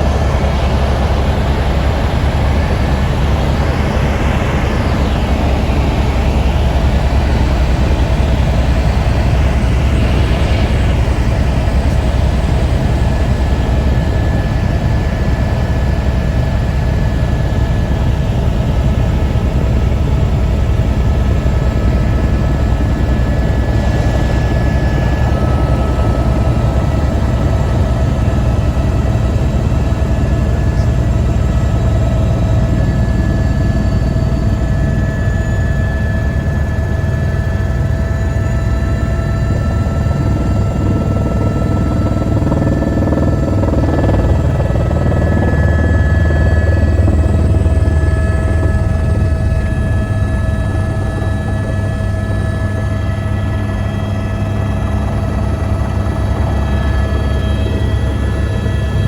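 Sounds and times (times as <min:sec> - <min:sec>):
faint whining tones: 0:00.0 - 0:59.0
helicopter rotor and engine drone: 0:00.0 - 0:59.0.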